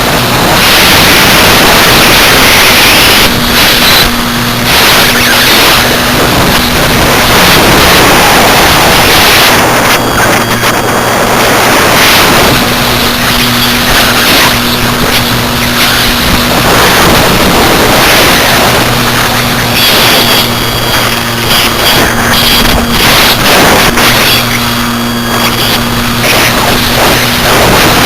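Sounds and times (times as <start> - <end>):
electric motor and propeller hum: 0.0 - 28.0
wind rushing over microphone: 0.0 - 28.0.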